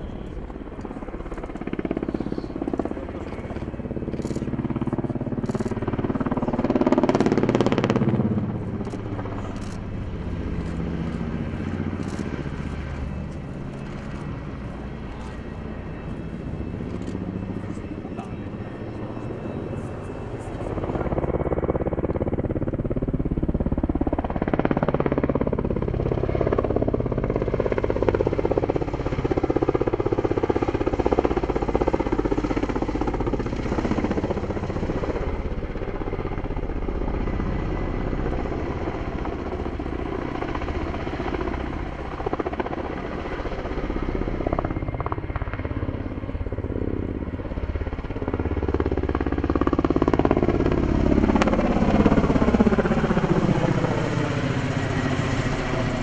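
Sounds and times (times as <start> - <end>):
helicopters flying past: 0.0 - 56.0.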